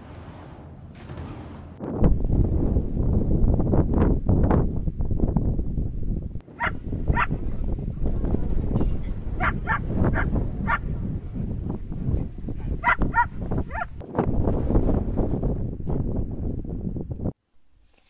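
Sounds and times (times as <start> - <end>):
wind buffeting microphone: 1.7 - 17.4.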